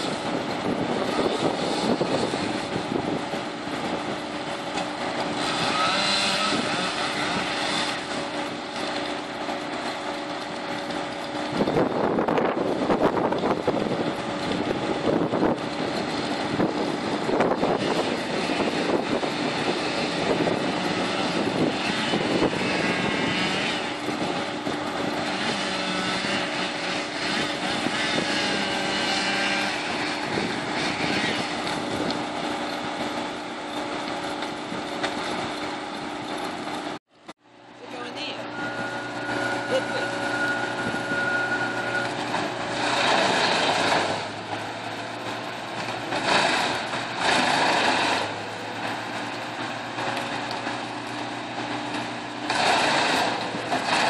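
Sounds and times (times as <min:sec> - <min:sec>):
heavy machinery engines droning: 0:00.0 - 0:54.0.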